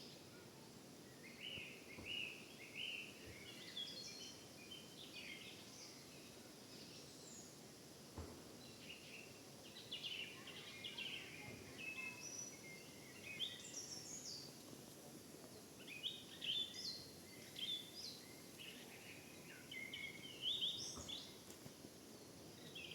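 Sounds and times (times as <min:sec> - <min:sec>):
forest ambience hiss: 0:00.0 - 0:22.9
songbirds chirping and trilling: 0:00.0 - 0:22.9.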